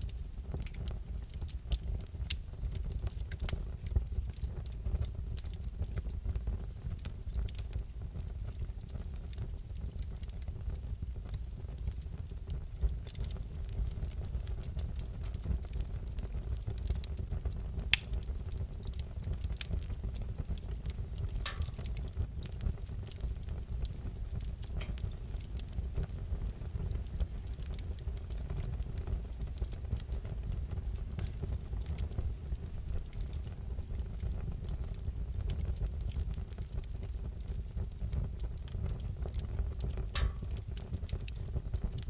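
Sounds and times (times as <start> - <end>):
fire crackling and popping: 0.0 - 42.0.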